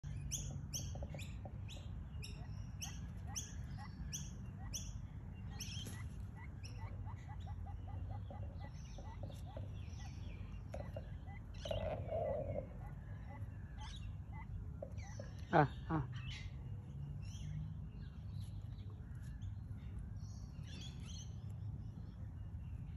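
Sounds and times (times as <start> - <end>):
bird chirping: 0.0 - 22.9.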